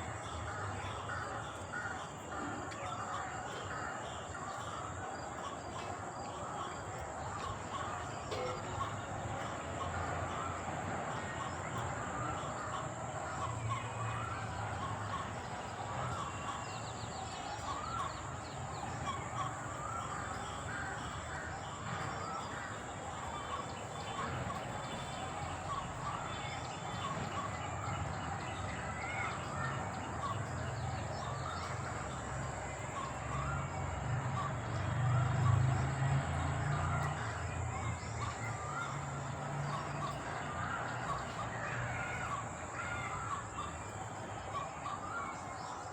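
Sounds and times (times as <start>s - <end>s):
crows cawing: 0.0s - 45.9s.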